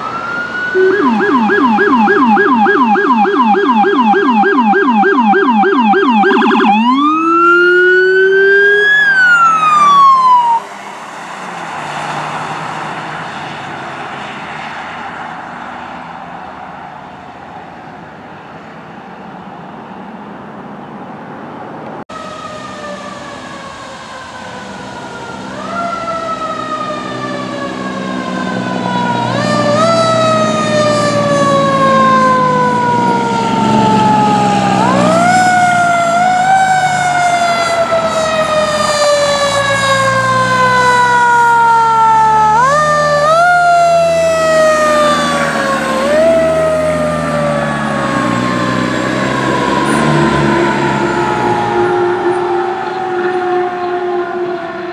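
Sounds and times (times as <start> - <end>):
police siren yelp and wail: 0.0 - 15.4, 22.1 - 54.9
fire truck siren: 0.0 - 16.9, 22.0 - 54.9
road noise: 0.0 - 54.9.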